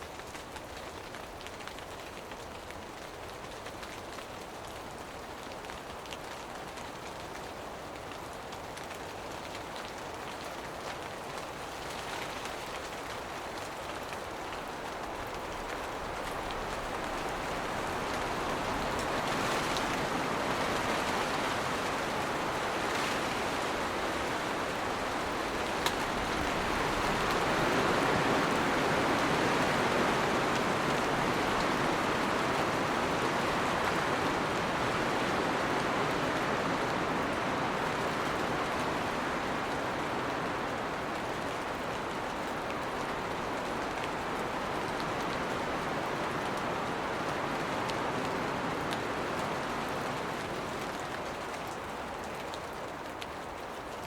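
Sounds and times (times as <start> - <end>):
rain shower hiss: 0.0 - 54.0.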